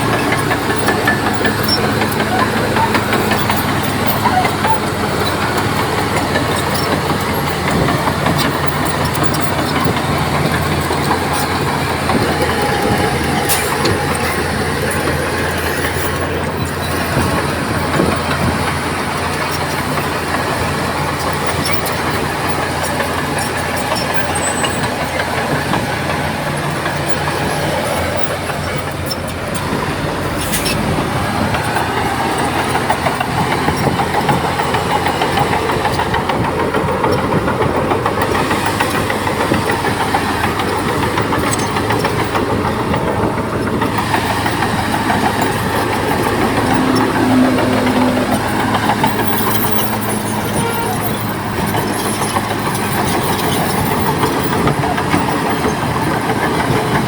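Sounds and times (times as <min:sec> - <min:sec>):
bulldozer diesel engine: 0:00.0 - 0:57.0
steel tracks clattering: 0:00.0 - 0:57.0.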